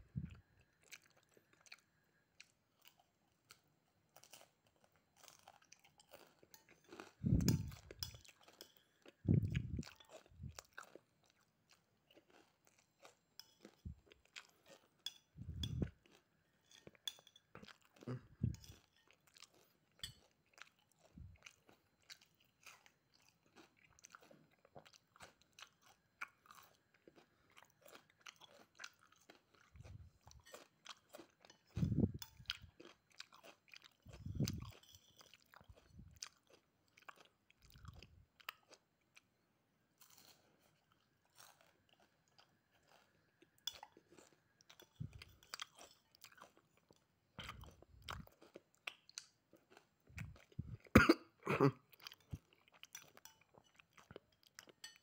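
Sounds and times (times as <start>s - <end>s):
person chewing crunchy food: 0.0s - 39.3s, 39.9s - 55.0s.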